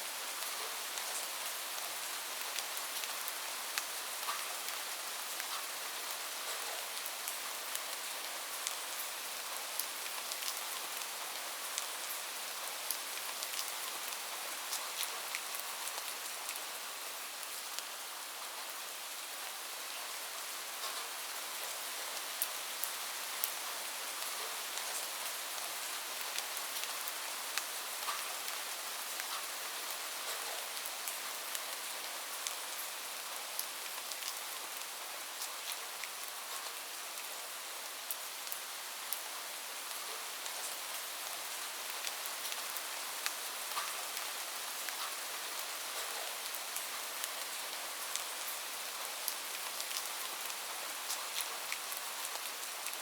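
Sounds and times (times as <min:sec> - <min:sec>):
steady rain hiss: 0:00.0 - 0:53.0
raindrops ticking on a surface: 0:00.3 - 0:17.9, 0:20.7 - 0:53.0.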